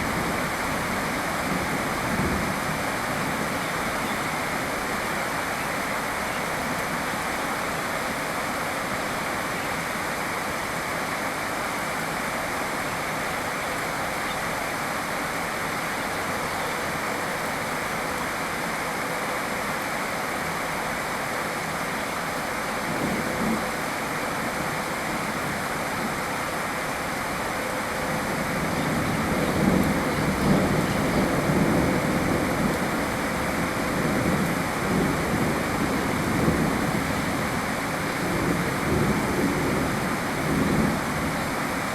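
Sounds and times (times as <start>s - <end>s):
steady rain hissing: 0.0s - 41.9s.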